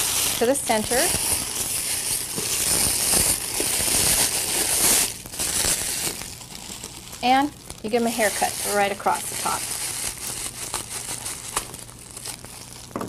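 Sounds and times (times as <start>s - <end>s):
metallic ribbon crinkling: 0.0s - 13.0s.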